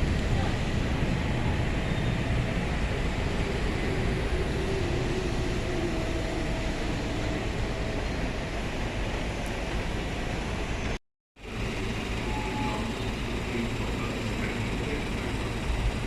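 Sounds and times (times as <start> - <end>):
vehicle running: 0.0 - 16.0.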